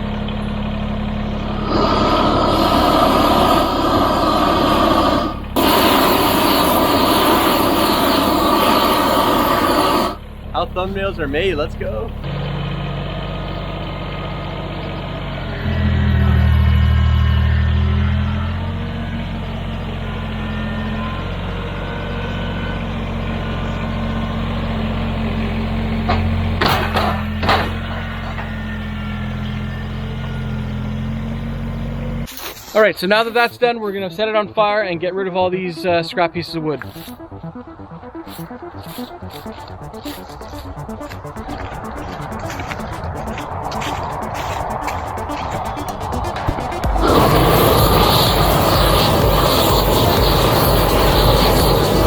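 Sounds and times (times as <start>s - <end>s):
tractor diesel engine at high revs: 0.0s - 32.3s, 36.8s - 52.0s.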